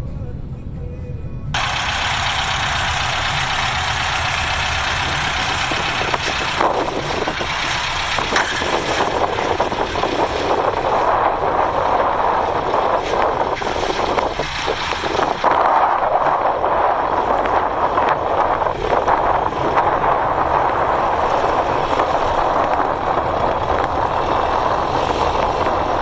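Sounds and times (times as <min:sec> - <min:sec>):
van engine running: 0:00.0 - 0:26.0.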